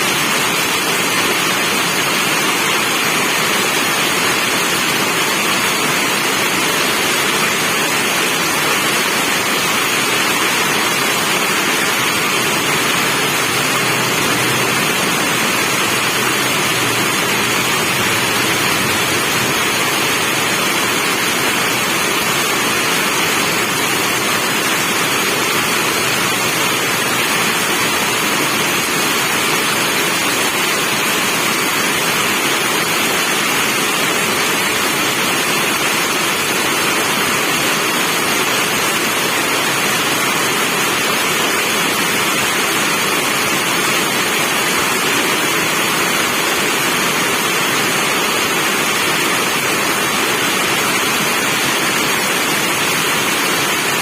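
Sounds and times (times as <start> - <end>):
heavy rainfall: 0.0 - 54.0.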